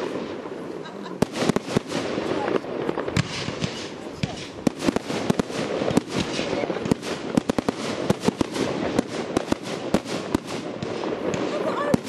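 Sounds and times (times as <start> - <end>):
continuous noise haze: 0.0 - 12.0
fireworks bangs: 0.0 - 12.0.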